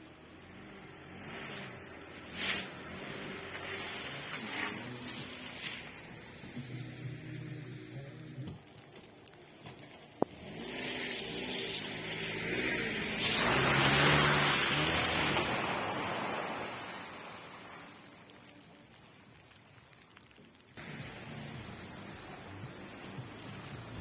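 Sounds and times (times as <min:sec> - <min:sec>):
rain patter: 0:00.0 - 0:24.0
car tyres hissing on wet road: 0:00.1 - 0:08.0, 0:10.3 - 0:18.9, 0:20.8 - 0:24.0.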